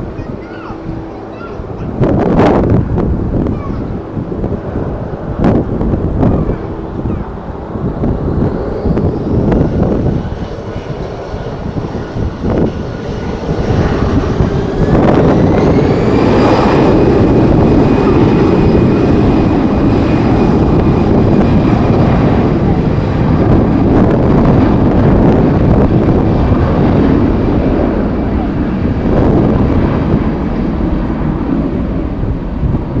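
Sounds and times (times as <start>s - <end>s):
jet engines spooling up: 0.0s - 33.0s.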